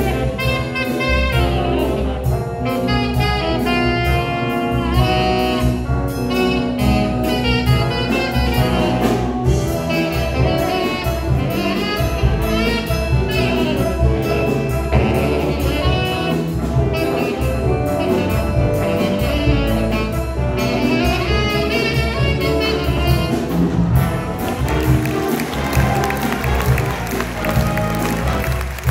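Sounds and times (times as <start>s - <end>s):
bass: 0.0s - 28.9s
drum kit: 0.0s - 28.9s
trombones: 0.0s - 28.9s
trumpets: 0.0s - 28.9s.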